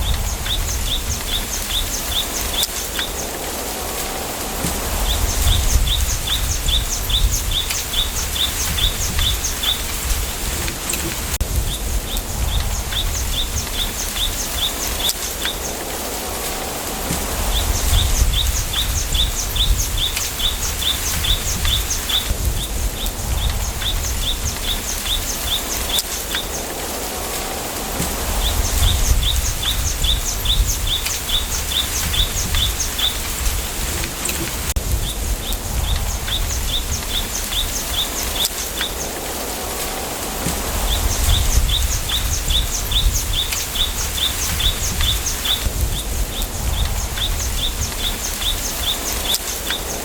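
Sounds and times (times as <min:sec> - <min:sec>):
wind rumble on microphone: 0:00.0 - 0:50.0
wind through bamboo: 0:00.0 - 0:50.0.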